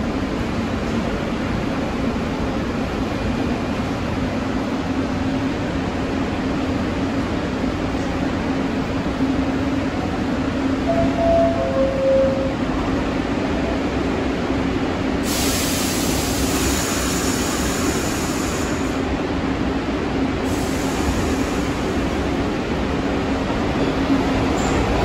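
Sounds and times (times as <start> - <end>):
subway train rumble and hum: 0.0 - 25.0.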